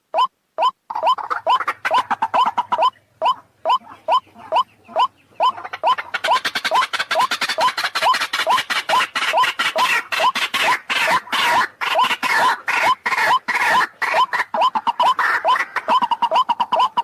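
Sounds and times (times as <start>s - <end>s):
waterhen short rising calls: 0.1s - 17.0s
harsh bird chatter: 0.9s - 17.0s.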